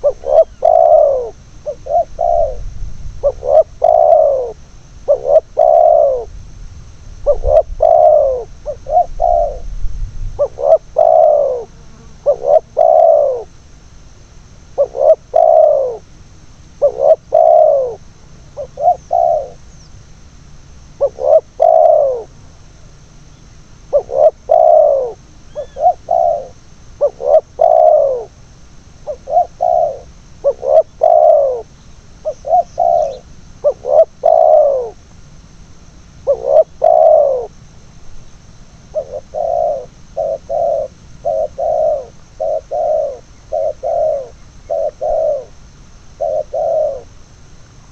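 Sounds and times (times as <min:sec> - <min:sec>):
doves cooing: 0:00.0 - 0:06.5, 0:07.1 - 0:19.9, 0:20.9 - 0:35.3, 0:36.0 - 0:37.6, 0:38.8 - 0:47.6.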